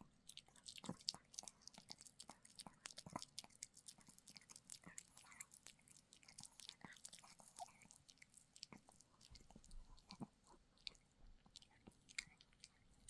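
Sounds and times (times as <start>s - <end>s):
dog chewing a treat: 0.1s - 13.0s.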